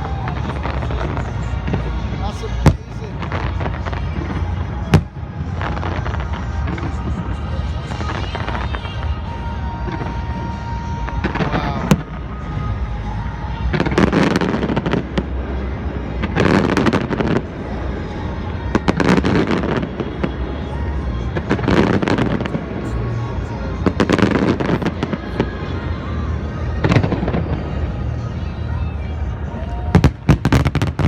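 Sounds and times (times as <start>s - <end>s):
fireworks exploding: 0.0s - 12.4s, 13.7s - 31.0s
low rumble: 0.0s - 31.0s.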